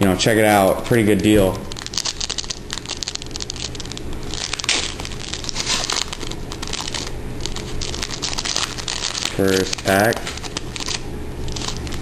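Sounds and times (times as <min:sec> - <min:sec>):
foil wrapper crinkling and tearing: 0:01.6 - 0:12.0.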